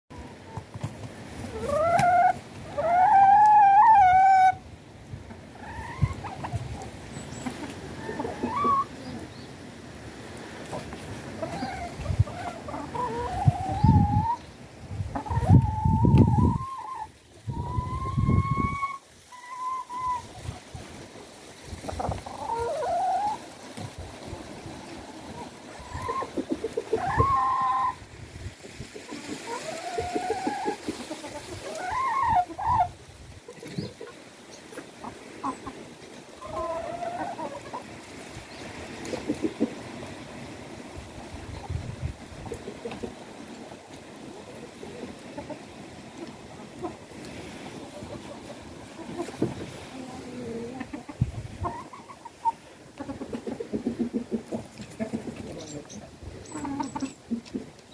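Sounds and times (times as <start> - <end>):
hens clucking: 0.1 - 4.7, 5.3 - 9.4, 10.6 - 57.9
chickens squawking: 1.3 - 4.7, 5.4 - 9.4, 10.6 - 14.5, 15.1 - 21.0, 21.8 - 39.9, 41.2 - 57.9.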